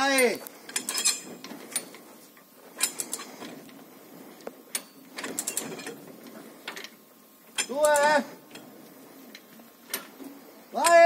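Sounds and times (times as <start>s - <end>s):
ratchet clicking and clattering: 0.0s - 2.1s, 2.7s - 3.8s, 4.7s - 11.0s.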